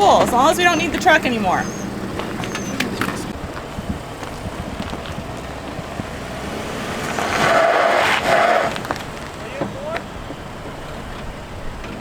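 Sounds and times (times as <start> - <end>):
truck engine running: 0.0 - 12.0
wind noise on microphone: 0.0 - 12.0.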